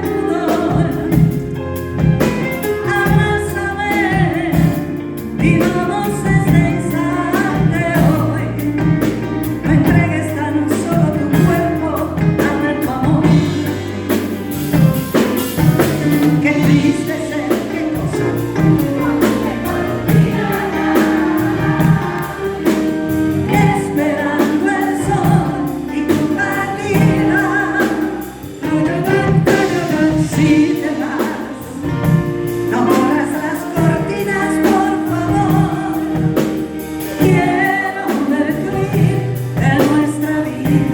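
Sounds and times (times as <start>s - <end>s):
live band playing ballad with singing: 0.0s - 40.9s.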